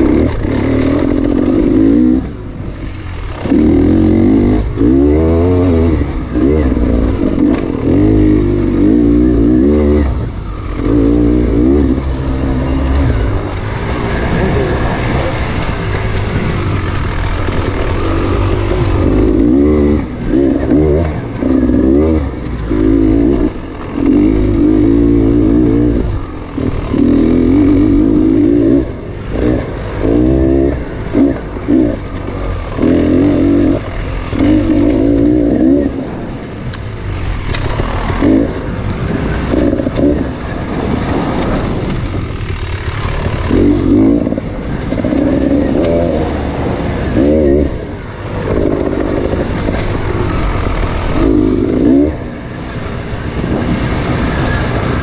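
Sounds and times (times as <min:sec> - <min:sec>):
two-stroke dirt bike engine revving: 0:00.0 - 0:55.0.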